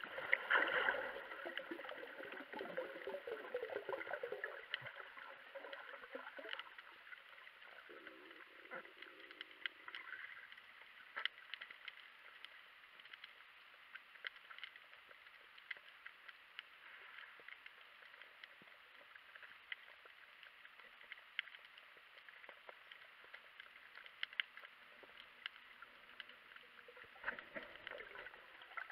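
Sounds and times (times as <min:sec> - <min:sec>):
sharp clicks and crackles: 0:00.0 - 0:28.9.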